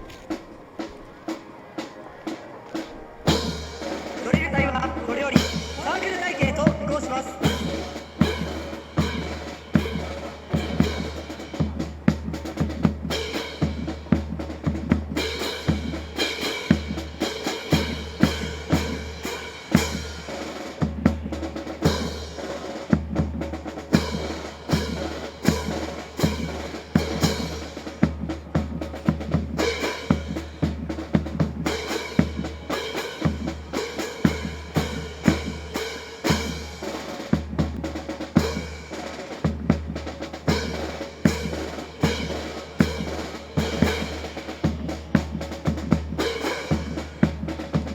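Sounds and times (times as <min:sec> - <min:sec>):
marching snare and bass drums: 0:00.0 - 0:47.9.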